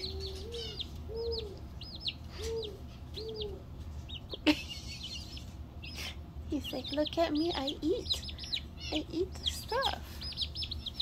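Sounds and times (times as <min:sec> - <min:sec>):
chick peeping: 0:00.0 - 0:11.0.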